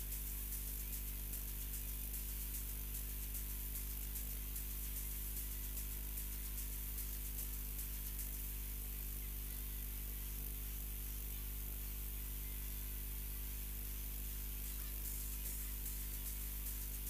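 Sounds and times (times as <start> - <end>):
faint music with beats: 0.0 - 17.0
sound system electrical hum: 0.0 - 17.0.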